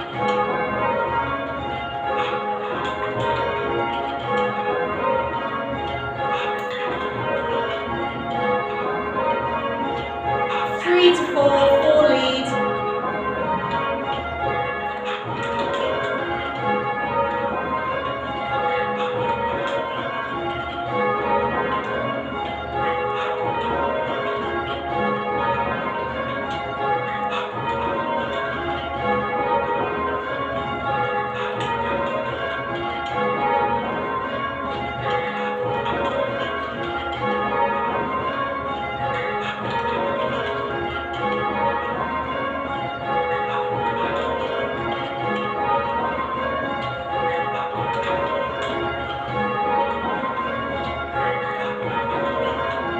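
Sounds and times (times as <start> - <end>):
church bells change ringing: 0.0 - 52.9.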